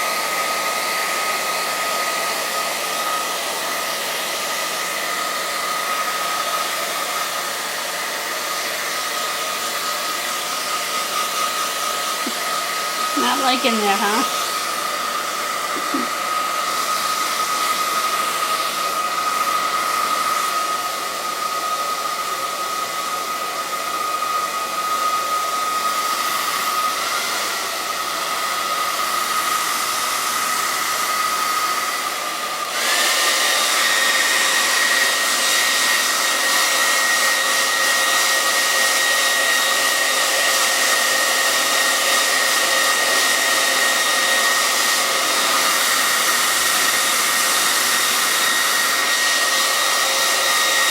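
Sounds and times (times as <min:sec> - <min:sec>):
hair dryer blowing with whine: 0:00.0 - 0:50.9.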